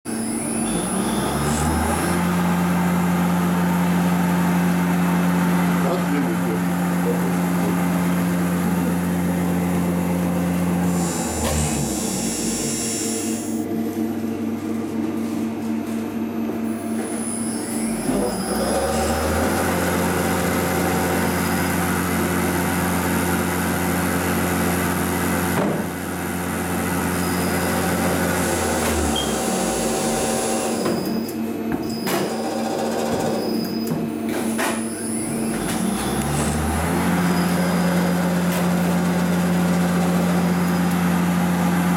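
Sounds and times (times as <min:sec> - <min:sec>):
spindle motor humming: 0:00.1 - 0:14.7, 0:16.2 - 0:41.9.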